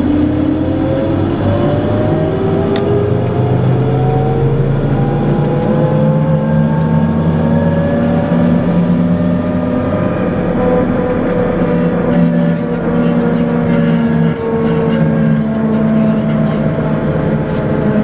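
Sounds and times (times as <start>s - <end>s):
rising drivetrain whine: 0.0s - 18.0s
vehicle diesel engine drone: 0.0s - 18.0s.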